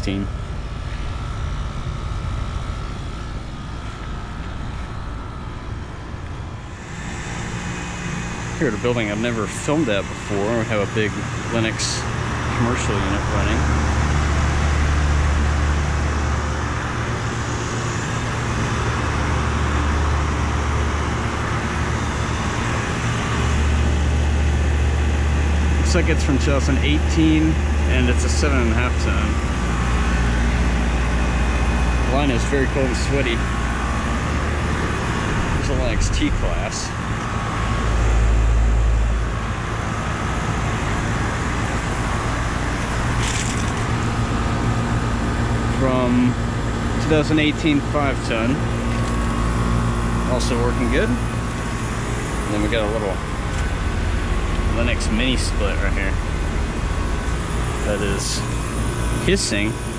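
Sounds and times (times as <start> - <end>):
compressor hum: 0.0 - 59.9
condenser fan rushing: 0.0 - 59.9.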